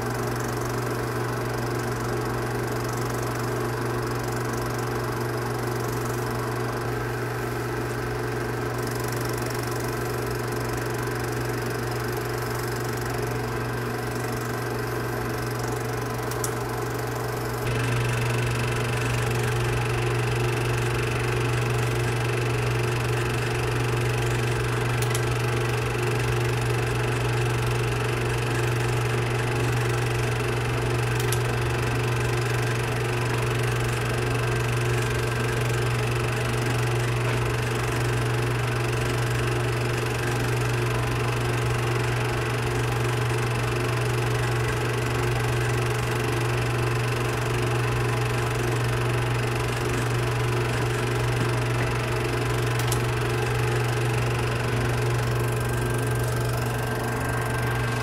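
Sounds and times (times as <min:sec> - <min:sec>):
film projector motor hum: 0:00.0 - 0:58.0.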